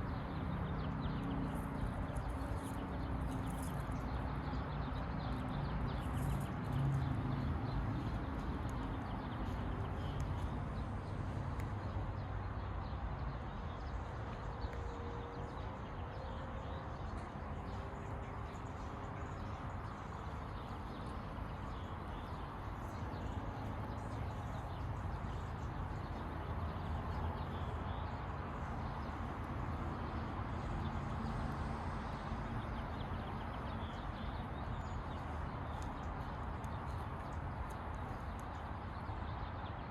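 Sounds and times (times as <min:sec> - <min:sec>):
low outdoor ambient noise: 0:00.0 - 0:39.9.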